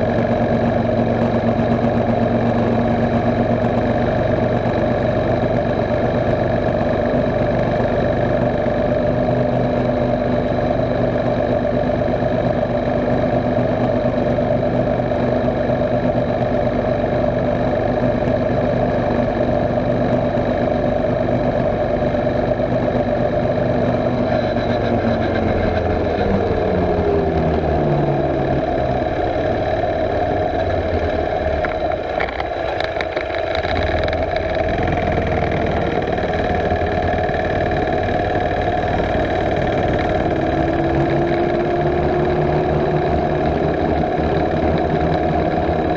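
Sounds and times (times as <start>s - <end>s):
mini bike engine running: 0.0s - 45.9s.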